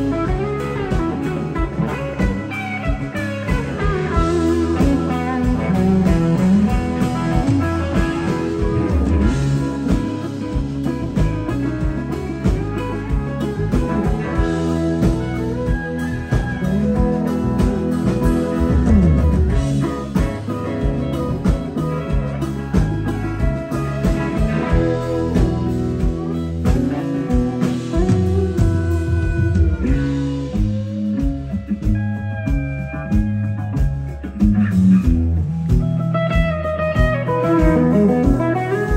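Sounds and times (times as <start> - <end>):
bass guitar: 0.0 - 38.9
drums: 0.0 - 38.9
electric guitar lead with bends: 0.0 - 38.9
second guitar: 0.0 - 38.9.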